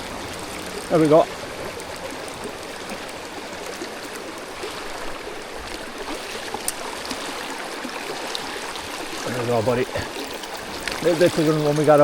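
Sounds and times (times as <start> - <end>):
mountain stream running: 0.0 - 12.0.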